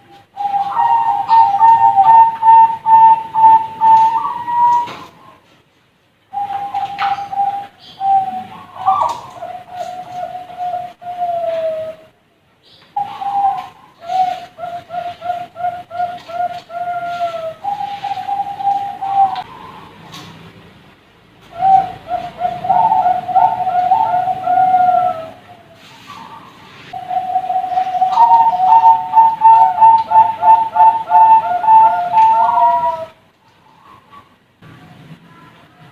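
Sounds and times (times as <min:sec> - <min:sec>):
doves cooing: 0:00.0 - 0:05.4, 0:06.3 - 0:12.2, 0:12.9 - 0:20.2, 0:21.5 - 0:34.4.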